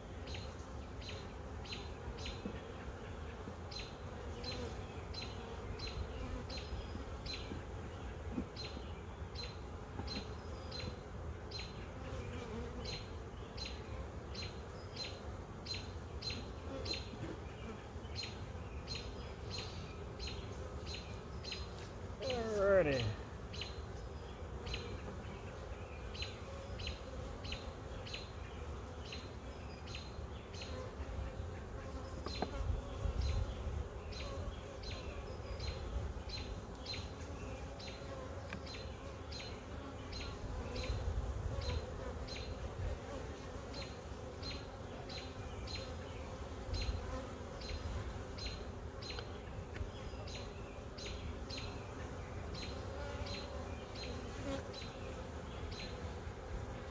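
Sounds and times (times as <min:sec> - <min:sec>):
honey bees buzzing: 0:00.0 - 0:56.9.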